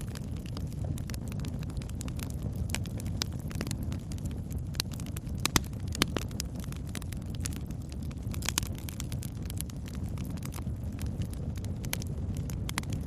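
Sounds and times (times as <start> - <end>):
campfire crackling and popping: 0.0 - 13.0
low fire rumble: 0.0 - 13.0.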